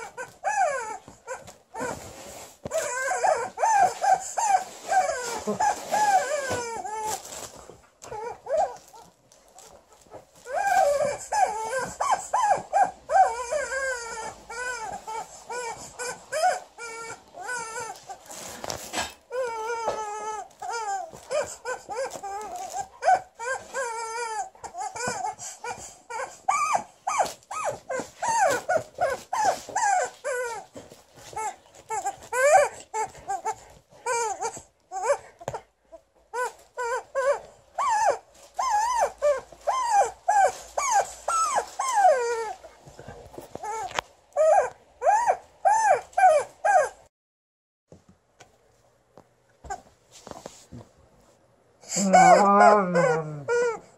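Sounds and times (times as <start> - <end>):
dog whining and grumbling: 0.0 - 47.1, 51.8 - 53.9.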